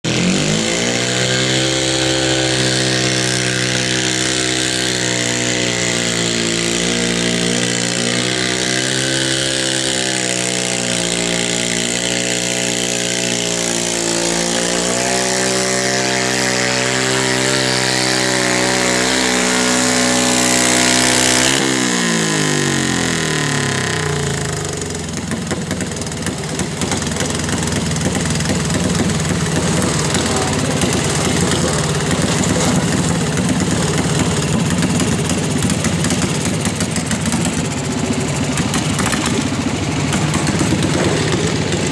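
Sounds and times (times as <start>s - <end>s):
tractor engine running hard: 0.0s - 41.9s.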